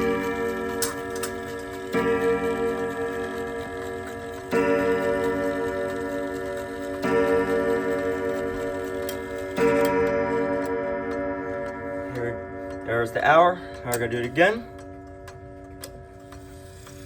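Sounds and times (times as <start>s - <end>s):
clock chime striking: 0.0s - 17.0s.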